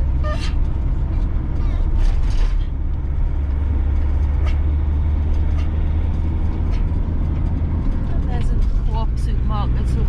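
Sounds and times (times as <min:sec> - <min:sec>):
road and engine drone: 0:00.0 - 0:10.0.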